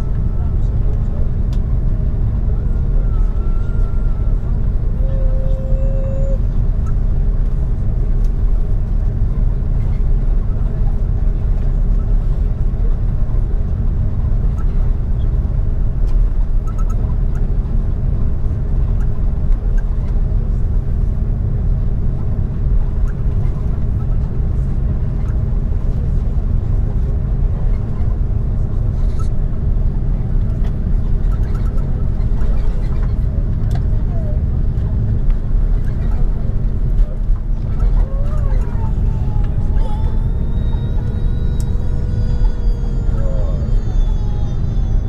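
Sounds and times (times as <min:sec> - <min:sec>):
jet engines low rumble: 0:00.0 - 0:45.0.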